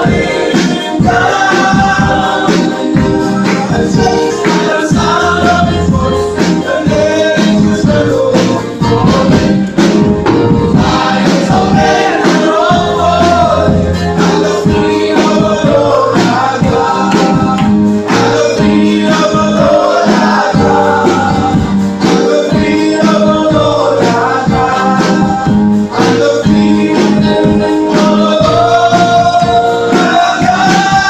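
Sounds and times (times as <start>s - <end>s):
gospel group singing in harmony: 0.0s - 31.0s
keyboard and drums band: 0.0s - 31.0s.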